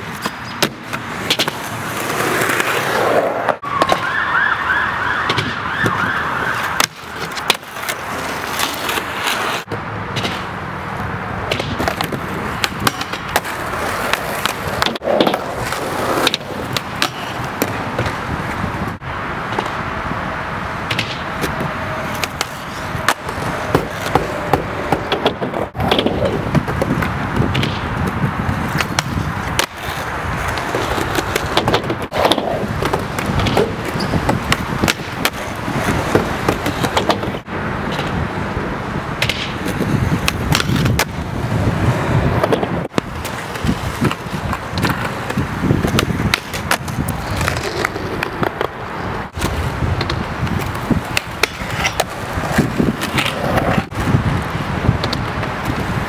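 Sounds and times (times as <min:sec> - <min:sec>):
skateboards clacking: 0:00.0 - 0:04.2, 0:05.2 - 0:56.0
skateboards rolling on asphalt: 0:00.0 - 0:56.0.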